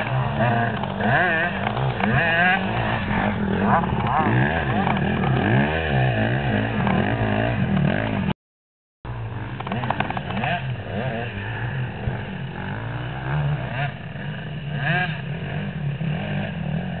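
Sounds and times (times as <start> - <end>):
motocross bike engines revving: 0.0 - 8.4, 9.1 - 17.0.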